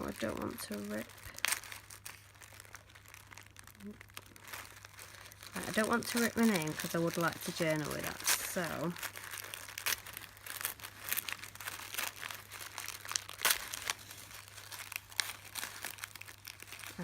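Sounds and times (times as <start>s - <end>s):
paper crinkling and crackling: 0.0s - 17.0s.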